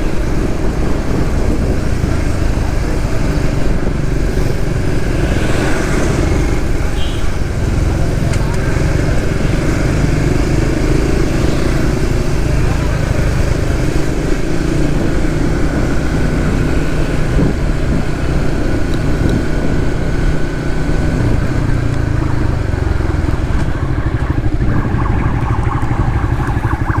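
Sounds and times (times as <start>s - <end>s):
motorcycle engine running: 0.0s - 27.0s
wind and road noise: 0.0s - 27.0s.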